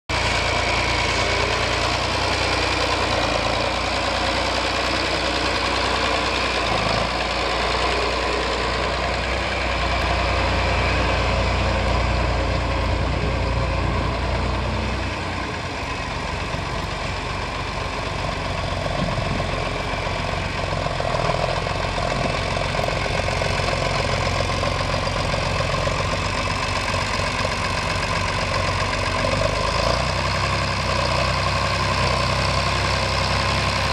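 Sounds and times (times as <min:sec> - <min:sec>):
tractor engine idling: 0:00.1 - 0:33.9.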